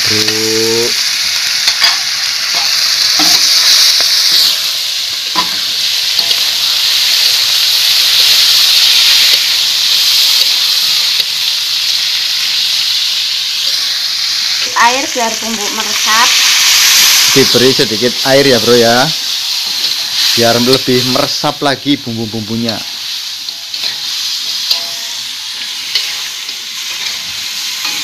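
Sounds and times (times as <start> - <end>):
meat sizzling in a wok: 0.0 - 28.0.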